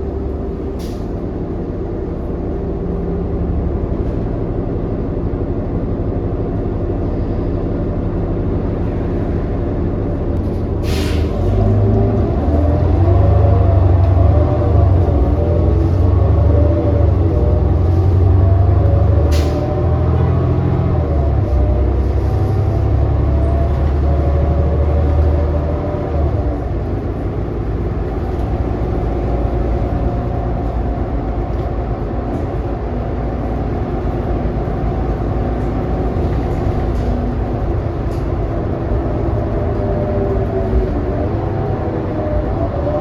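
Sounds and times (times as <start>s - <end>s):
bus engine drone: 0.0s - 43.0s.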